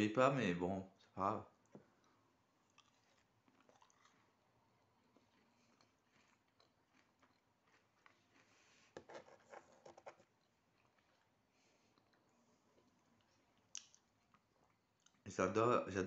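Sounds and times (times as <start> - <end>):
faint chewing of cookie: 0.9 - 15.3.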